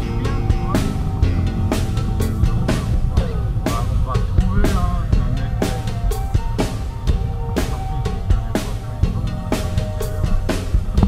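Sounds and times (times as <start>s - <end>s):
music with drum-kit beat: 0.0s - 11.0s.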